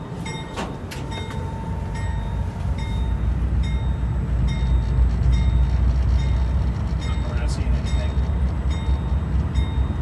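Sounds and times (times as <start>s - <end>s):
locomotive diesel engine rumbling: 0.0s - 10.0s.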